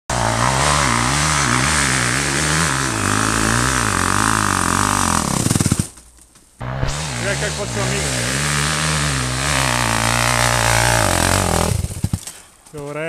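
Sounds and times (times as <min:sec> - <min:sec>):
dirt bike engine revving: 0:00.1 - 0:06.0, 0:06.6 - 0:12.4.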